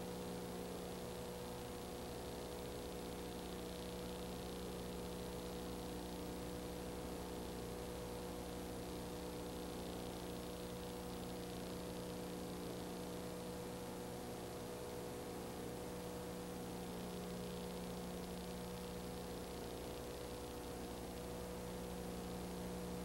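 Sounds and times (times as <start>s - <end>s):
electrical hum with held tones: 0.0s - 23.0s.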